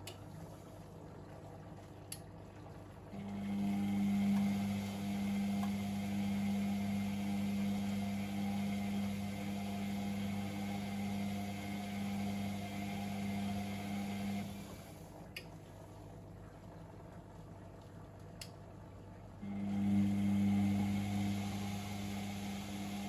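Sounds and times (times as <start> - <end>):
washing machine pump humming: 0.0 - 23.0.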